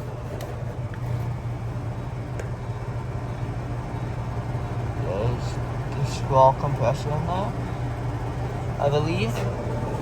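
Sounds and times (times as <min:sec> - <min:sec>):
air conditioner humming and whooshing: 0:00.0 - 0:10.0.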